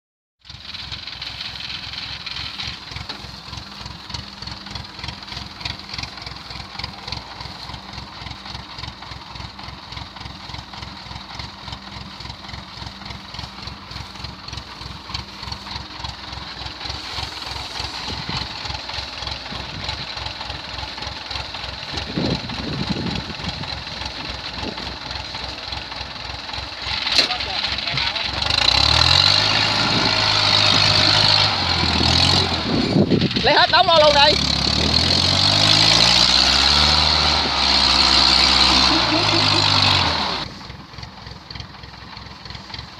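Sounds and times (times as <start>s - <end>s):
diesel engine throbbing: 0.4s - 42.9s.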